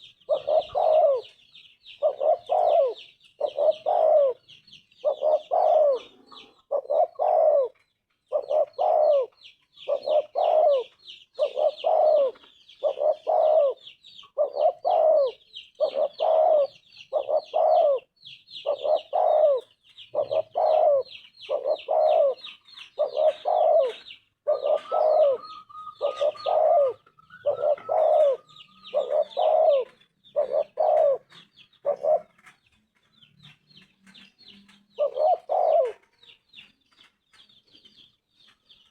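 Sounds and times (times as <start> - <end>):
dove cooing: 0.0 - 32.6, 34.9 - 36.2.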